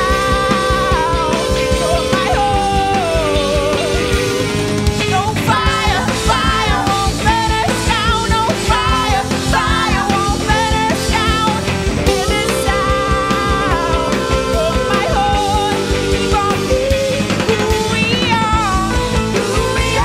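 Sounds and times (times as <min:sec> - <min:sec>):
drum kit beat: 0:00.0 - 0:20.0
electric guitar: 0:00.0 - 0:20.0
person singing: 0:00.0 - 0:20.0.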